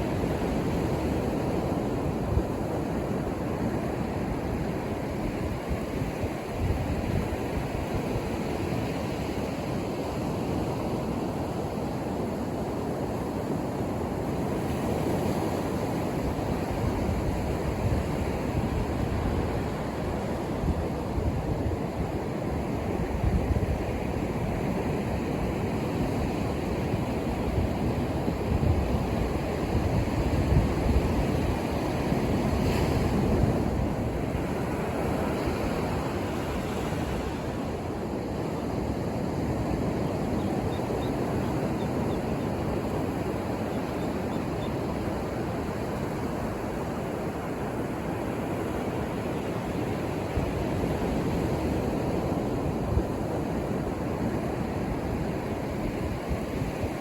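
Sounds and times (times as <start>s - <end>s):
ocean surf breaking on beach: 0.0s - 57.0s
wind rumble on microphone: 0.0s - 57.0s.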